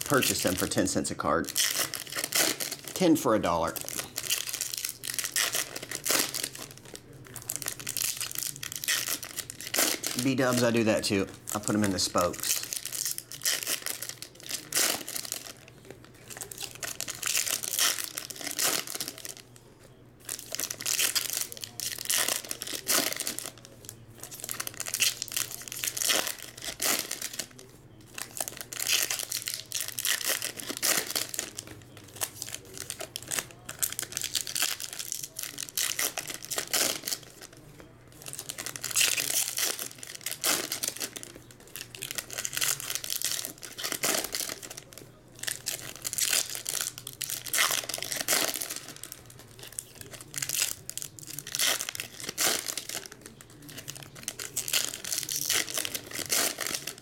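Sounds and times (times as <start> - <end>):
foil wrappers crinkling and tearing: 0.0 - 57.0.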